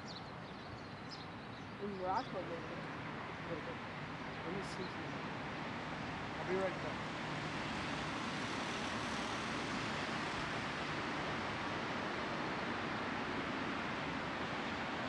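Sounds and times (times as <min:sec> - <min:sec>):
outdoor hiss and rumble: 0:00.0 - 0:15.0.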